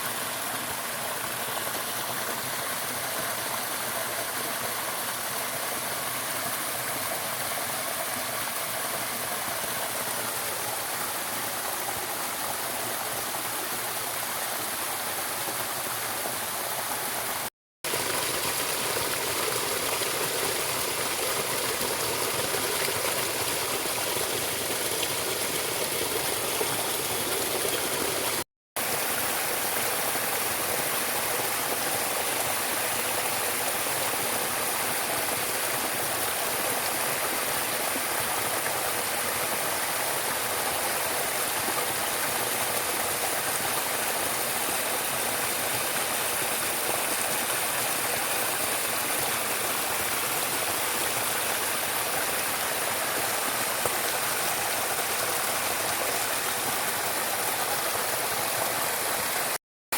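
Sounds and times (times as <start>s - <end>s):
stream water flowing: 0.0s - 59.6s.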